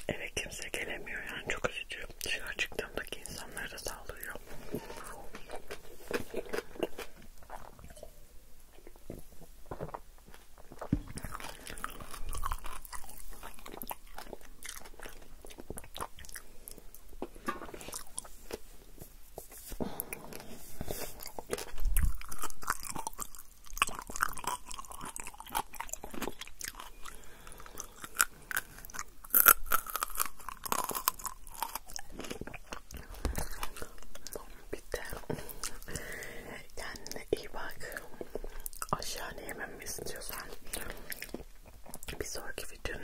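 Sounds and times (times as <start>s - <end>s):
person chewing and crunching food: 3.2s - 42.7s.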